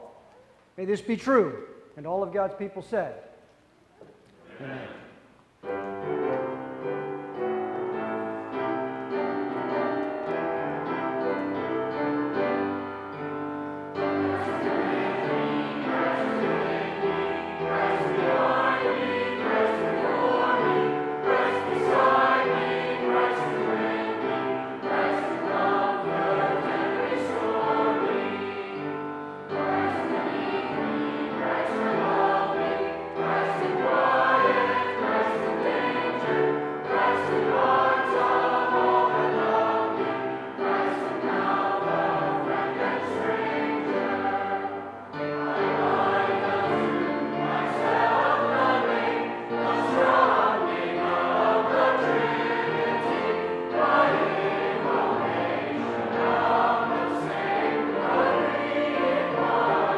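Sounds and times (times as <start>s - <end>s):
grand piano: 4.2s - 59.9s
congregation singing: 4.4s - 59.9s.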